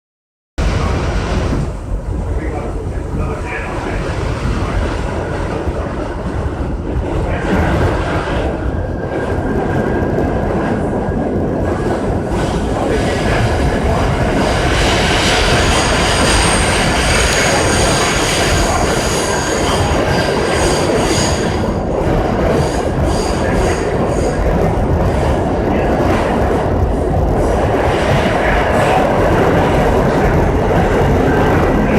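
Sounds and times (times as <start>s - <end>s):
subway train rumble: 0.6s - 31.9s.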